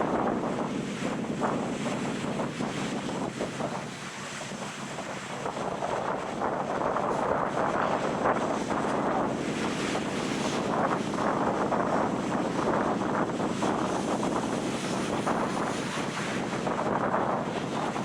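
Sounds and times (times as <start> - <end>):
ocean waves on sandy beach: 0.0 - 18.0
wind buffeting microphone: 0.0 - 18.0.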